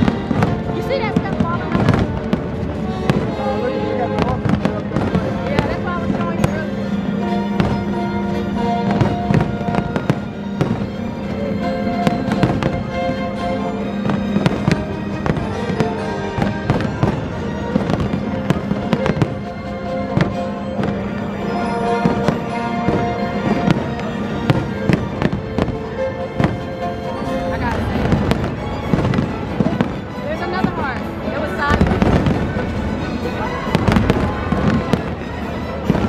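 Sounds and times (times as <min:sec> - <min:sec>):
fireworks bangs and crackles: 0:00.0 - 0:36.0
music playing: 0:00.0 - 0:36.0.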